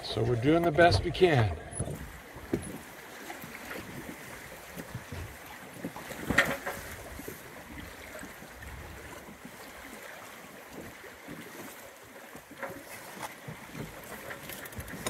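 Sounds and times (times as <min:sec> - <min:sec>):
water washing along hull: 0:00.0 - 0:15.0.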